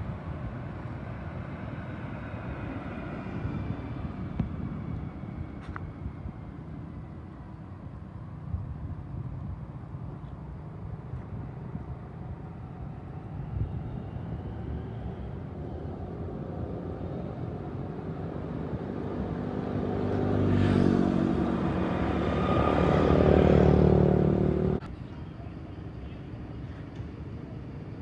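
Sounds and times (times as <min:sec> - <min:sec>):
car engine and tyre noise: 0:00.0 - 0:28.0
low traffic rumble: 0:00.0 - 0:28.0.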